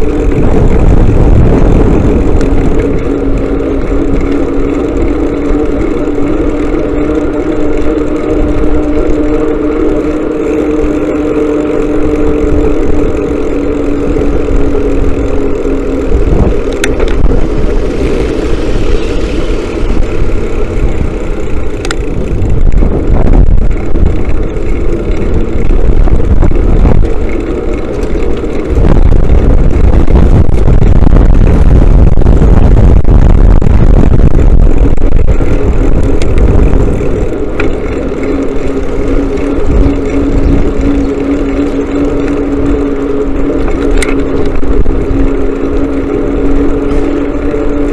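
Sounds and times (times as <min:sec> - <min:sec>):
loud low rumble: 0:00.0 - 0:07.5, 0:11.8 - 0:47.9
motorcycle engine running: 0:00.0 - 0:47.9.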